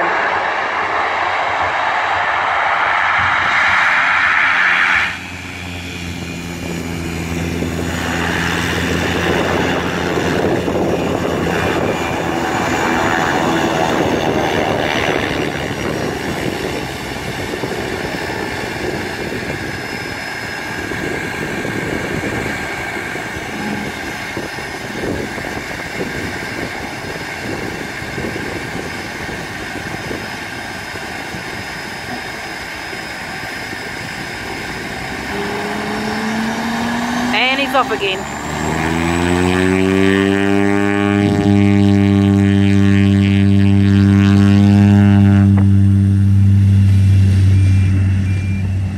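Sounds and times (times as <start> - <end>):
propeller aircraft engine whining: 0.0 - 48.9.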